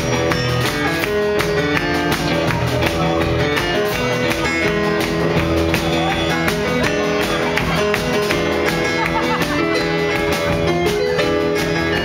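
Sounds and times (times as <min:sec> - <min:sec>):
live band playing: 0:00.0 - 0:12.0
steady drum beat: 0:00.0 - 0:12.0.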